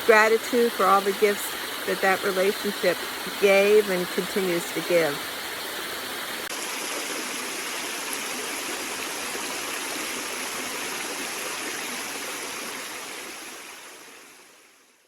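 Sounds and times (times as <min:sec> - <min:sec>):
waterfall and stream rushing: 0:00.0 - 0:14.6.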